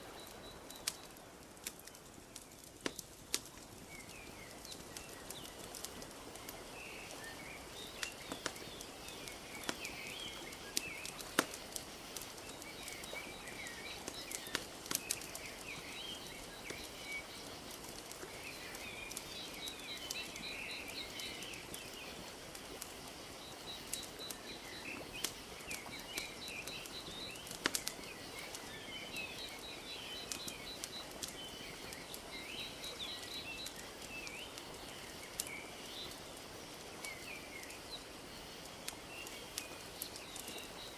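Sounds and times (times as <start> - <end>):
small birds chirping: 0.0 - 40.9
wood fire crackling: 0.0 - 40.9.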